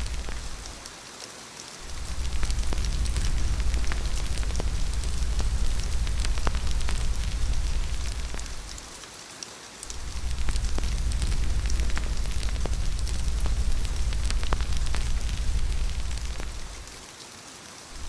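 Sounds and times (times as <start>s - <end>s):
wood fire crackling: 0.0s - 1.0s, 1.8s - 9.2s, 9.8s - 17.0s
steady rain: 0.0s - 18.0s.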